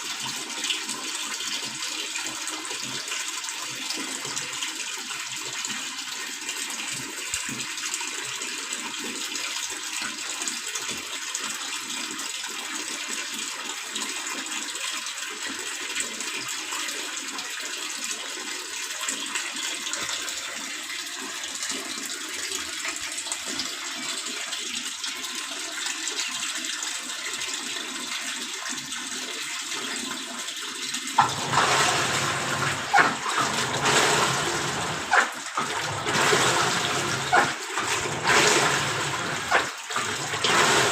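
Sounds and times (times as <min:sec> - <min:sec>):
water pouring into washing machine: 0:00.0 - 0:40.9.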